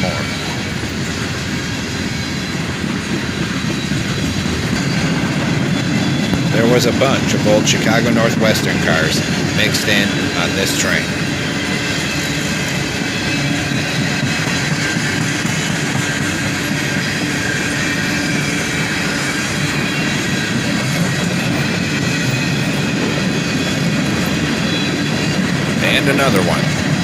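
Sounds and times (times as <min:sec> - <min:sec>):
train wheels rolling on rail: 0:00.0 - 0:27.0.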